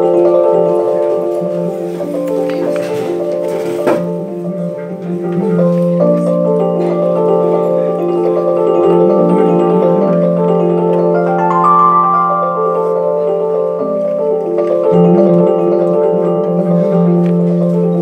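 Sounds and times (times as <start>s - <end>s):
jazz band playing: 0.0s - 18.0s
sustained keyboard notes: 0.0s - 18.0s.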